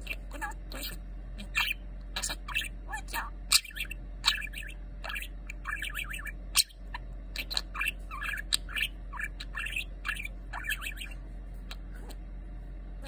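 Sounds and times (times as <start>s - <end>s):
budgerigar chattering: 0.0s - 12.2s.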